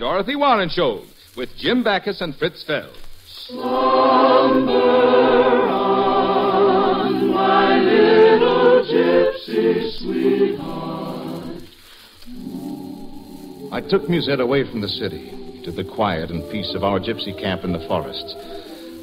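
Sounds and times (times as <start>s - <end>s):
choir singing: 3.5s - 19.0s.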